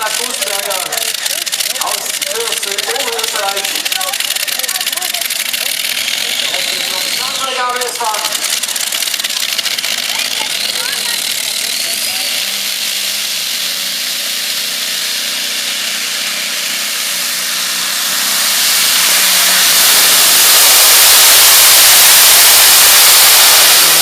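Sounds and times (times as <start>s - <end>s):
tractor engine at full power: 0.0s - 24.0s.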